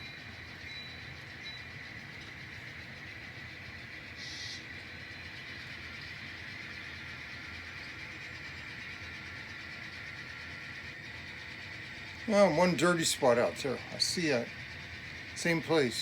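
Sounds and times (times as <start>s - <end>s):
model train humming and whining: 0.0s - 16.0s.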